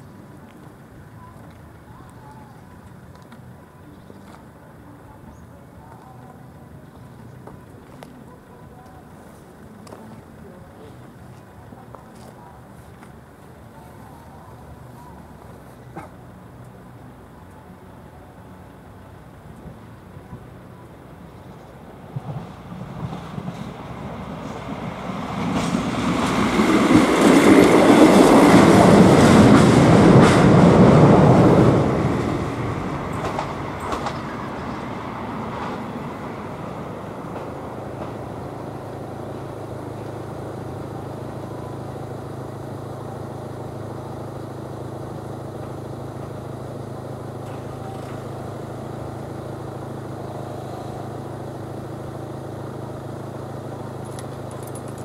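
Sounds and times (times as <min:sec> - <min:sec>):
passenger train passing: 0:00.0 - 0:55.0.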